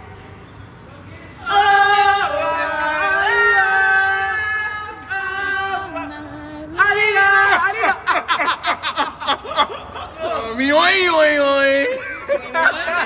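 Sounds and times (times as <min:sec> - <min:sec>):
voices singing held vowels: 0:00.0 - 0:13.0.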